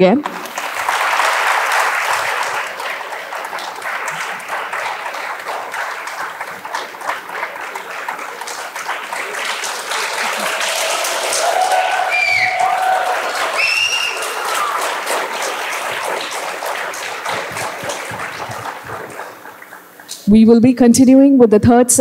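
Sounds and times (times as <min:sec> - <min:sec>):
audience applauding: 0:00.2 - 0:20.2.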